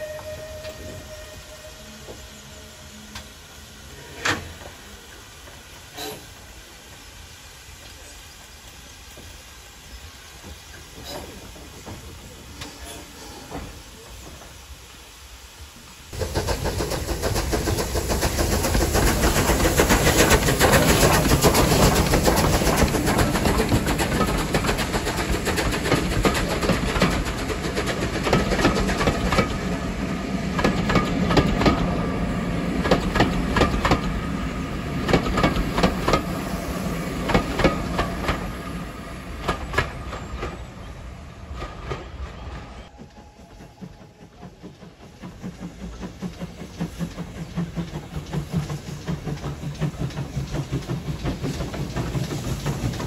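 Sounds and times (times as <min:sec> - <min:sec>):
steam train engine passing: 0:00.0 - 0:53.0.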